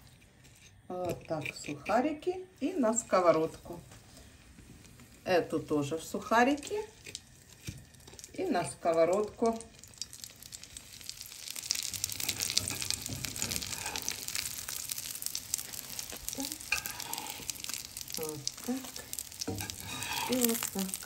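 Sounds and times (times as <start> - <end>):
cutlets sizzling in a frying pan: 2.6 - 21.0.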